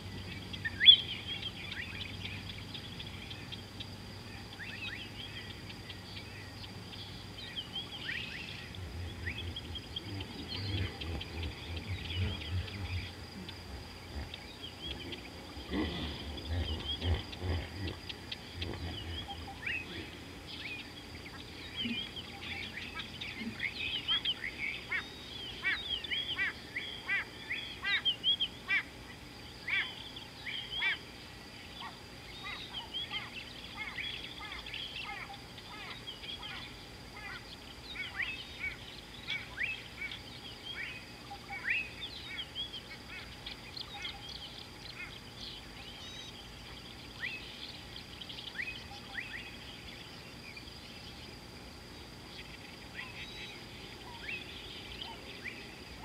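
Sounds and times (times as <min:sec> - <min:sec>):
faint high-pitched hum: 0:00.0 - 0:56.0
small birds chirping: 0:00.0 - 0:56.0.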